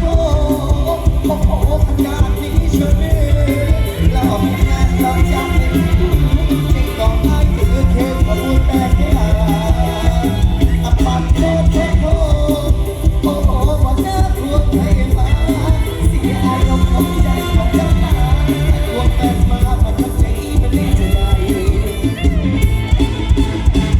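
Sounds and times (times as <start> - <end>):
amplified live band music: 0.0 - 23.9
fast even bass beat: 0.0 - 23.9.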